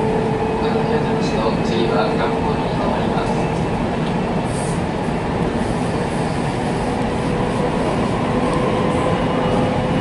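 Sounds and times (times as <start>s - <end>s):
rumble of wheels on rails: 0.0s - 10.0s.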